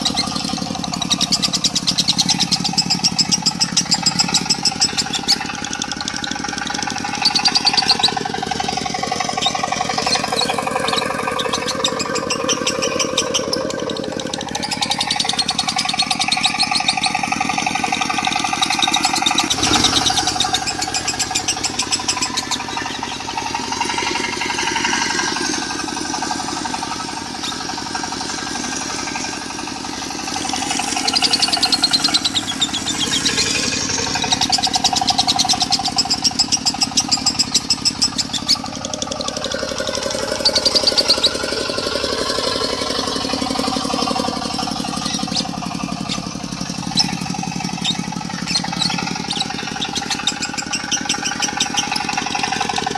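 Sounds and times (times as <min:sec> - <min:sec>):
bird chattering trill: 0:00.0 - 0:52.9
diesel engine running: 0:00.0 - 0:52.9.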